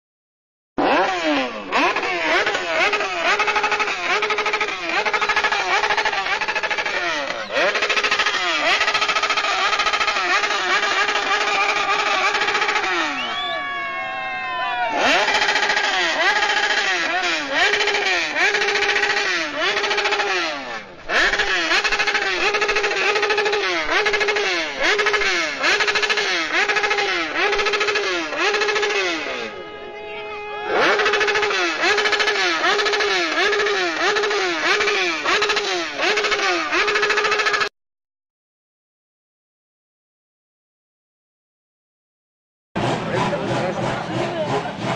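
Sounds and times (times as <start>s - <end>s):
motorcycle engine revving: 0.8s - 37.7s, 42.8s - 44.9s.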